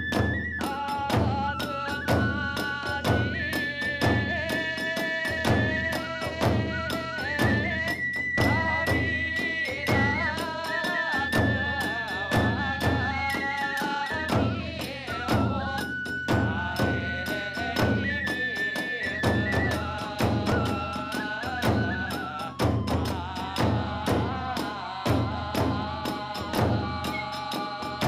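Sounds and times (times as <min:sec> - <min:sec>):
bamboo flute high notes: 0:00.0 - 0:03.6, 0:05.4 - 0:24.4, 0:26.6 - 0:28.0
drum strokes: 0:00.0 - 0:28.0.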